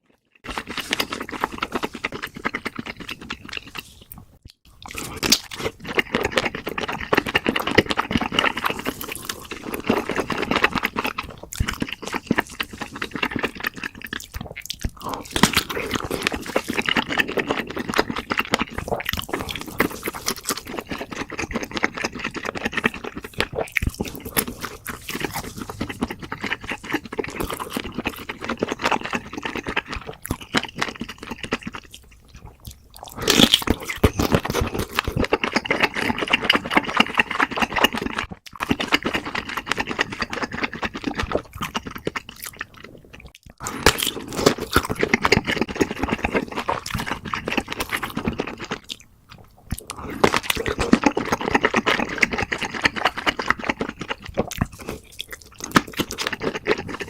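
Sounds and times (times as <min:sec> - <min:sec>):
wet chewing and crunching: 0:00.0 - 0:57.0.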